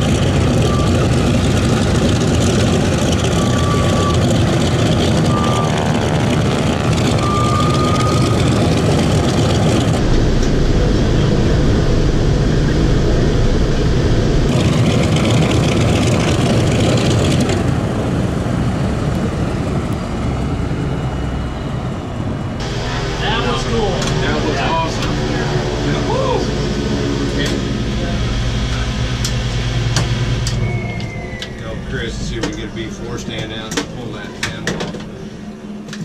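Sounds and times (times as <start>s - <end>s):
propeller aircraft engines droning: 0.0s - 36.0s.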